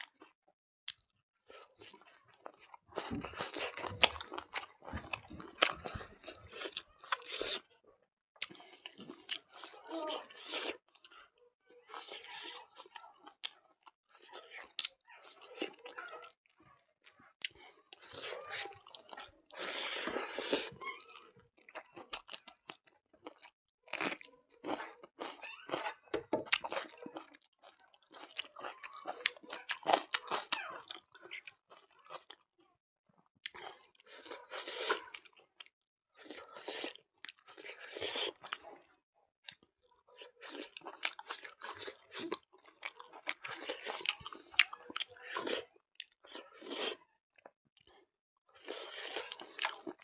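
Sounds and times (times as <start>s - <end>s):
person chewing and crunching food: 0.0s - 7.8s, 8.4s - 32.7s, 33.4s - 50.0s.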